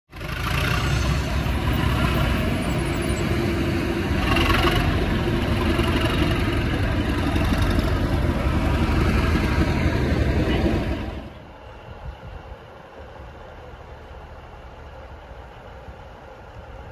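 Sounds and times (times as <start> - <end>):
diesel locomotive engine running hard: 0.1 - 16.9.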